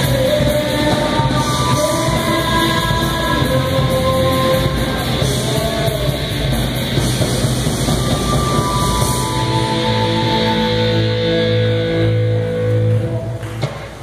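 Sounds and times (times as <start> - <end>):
rock band playing loud: 0.0 - 13.8.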